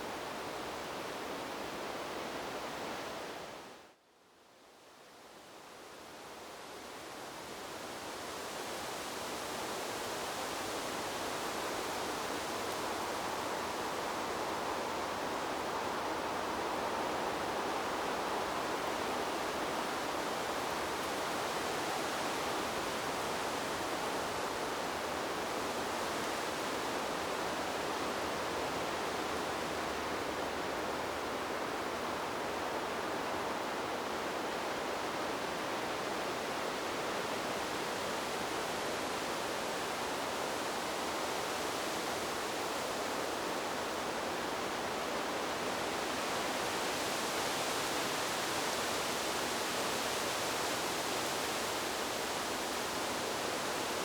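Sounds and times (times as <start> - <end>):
wind blowing through trees: 0.0 - 54.0.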